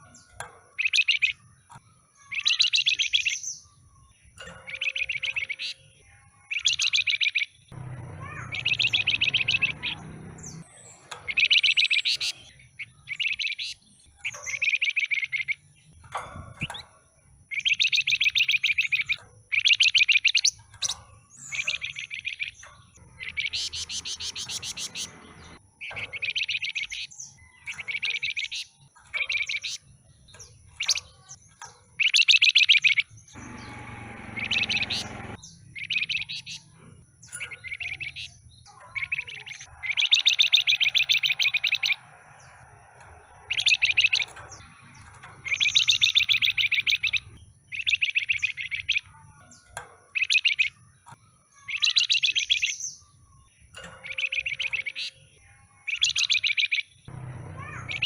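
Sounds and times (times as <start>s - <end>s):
songbird trilling: 0.0s - 58.0s.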